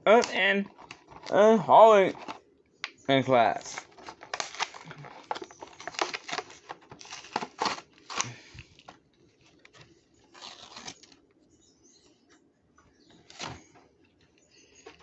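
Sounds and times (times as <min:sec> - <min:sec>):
plastic and cardboard crinkling: 0:00.1 - 0:11.3, 0:13.2 - 0:15.0.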